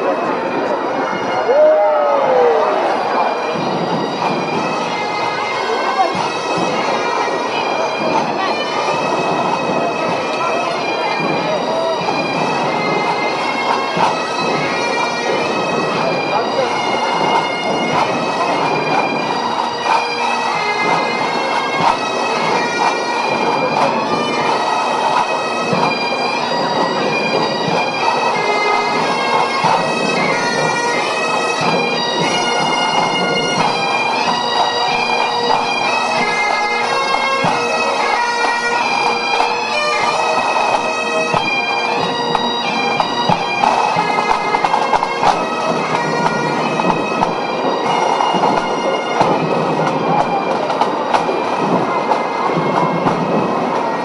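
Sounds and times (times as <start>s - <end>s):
bagpipes playing a tune: 0.0s - 54.0s.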